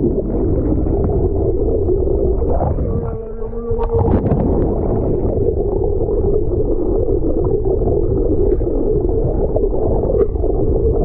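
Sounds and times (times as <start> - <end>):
muffled underwater boat engine drone: 0.0 - 11.0.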